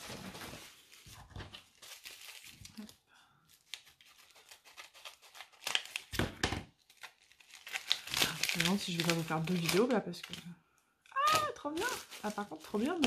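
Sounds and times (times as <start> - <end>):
packaging being torn and crinkled: 0.0 - 13.0.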